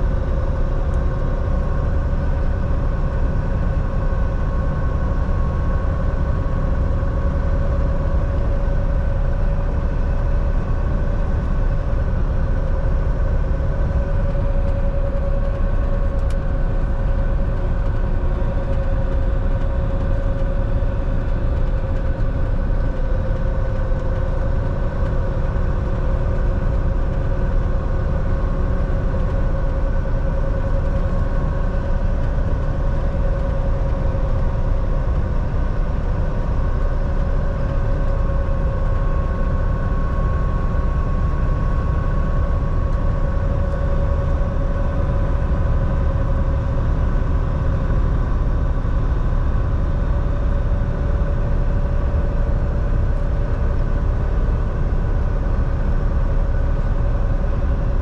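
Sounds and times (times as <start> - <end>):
steady hum: 0.0 - 58.0
truck engine and road noise: 0.0 - 58.0.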